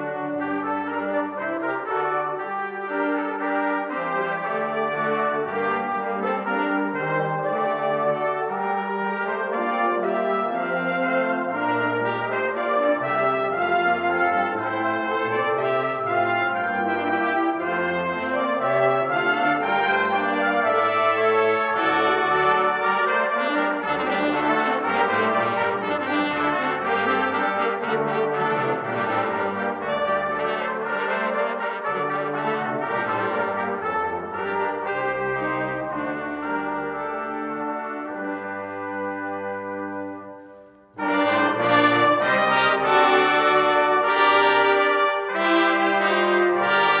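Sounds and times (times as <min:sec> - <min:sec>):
brass ensemble playing: 0:00.0 - 0:47.0.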